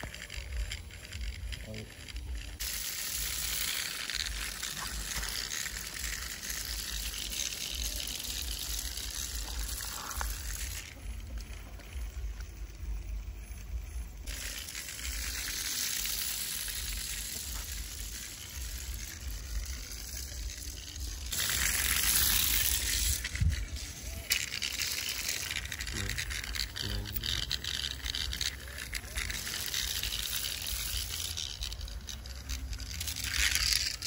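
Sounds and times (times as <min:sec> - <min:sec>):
toy motor crackling whirr: 0:00.0 - 0:34.0.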